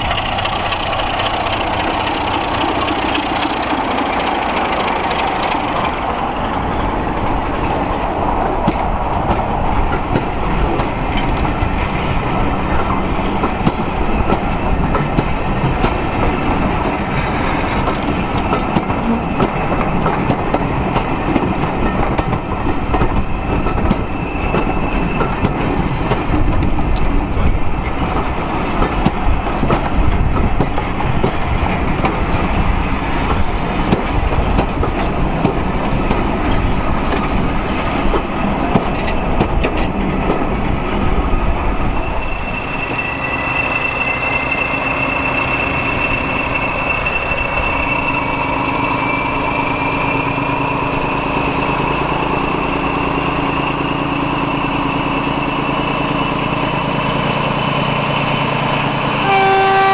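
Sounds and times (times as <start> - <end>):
diesel locomotive engine running: 0.0 - 59.9
train wheels clicking over rail joints: 0.0 - 59.9.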